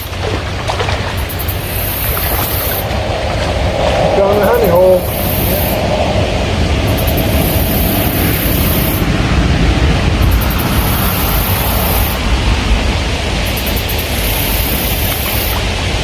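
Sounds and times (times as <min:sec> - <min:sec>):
water rushing from spillway: 0:00.0 - 0:16.0
wind buffeting microphone: 0:00.0 - 0:16.0.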